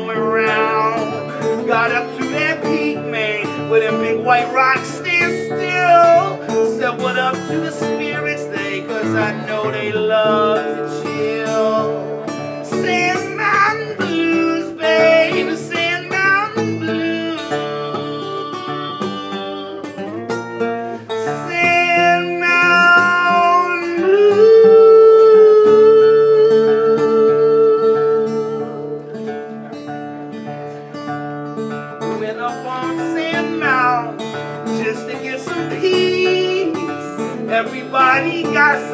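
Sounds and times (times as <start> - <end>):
man singing: 0.0 - 29.3, 32.0 - 38.9
acoustic guitar picked and strummed: 0.0 - 38.9.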